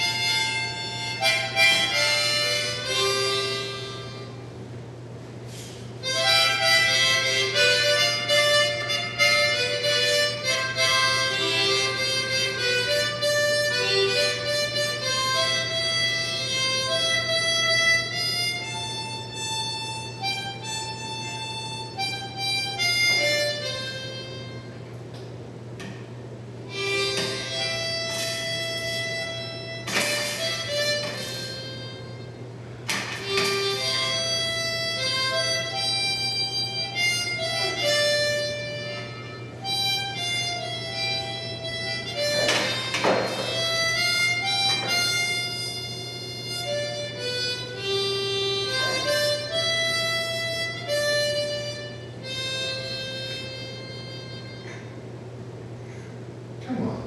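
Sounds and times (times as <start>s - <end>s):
harmonica playing: 0.0s - 25.6s, 26.2s - 56.6s.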